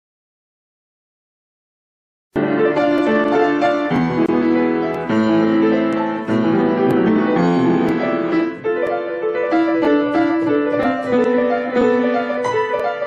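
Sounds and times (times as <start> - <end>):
piano music: 2.4 - 13.0.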